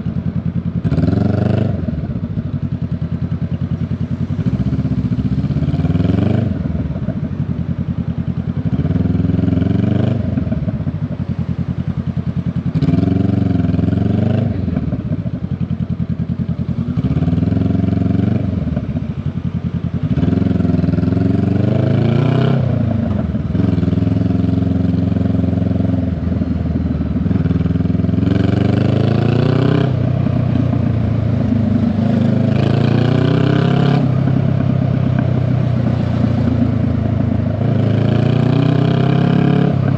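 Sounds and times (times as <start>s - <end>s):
motorcycle exhaust revving: 0.0s - 39.9s.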